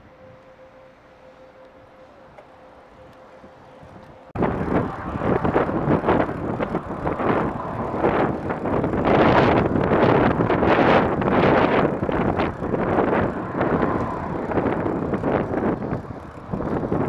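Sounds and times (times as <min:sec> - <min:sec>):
faint steady hum: 0:00.0 - 0:17.0
wind buffeting microphone: 0:03.1 - 0:17.0.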